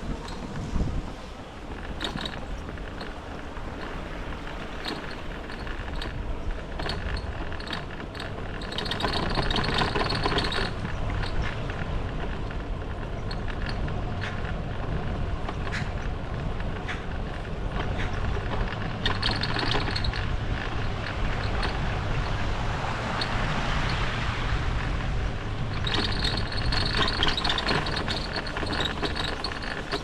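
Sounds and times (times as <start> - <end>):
bicycle clicks and rattles: 0.0 - 30.0
wind rumbling on microphone: 0.0 - 30.0.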